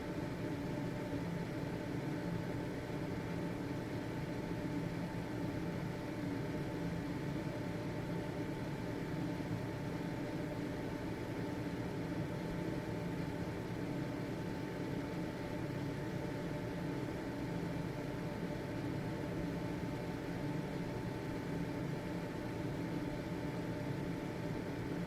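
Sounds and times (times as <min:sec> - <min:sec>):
ventilation fan running: 0:00.0 - 0:25.0.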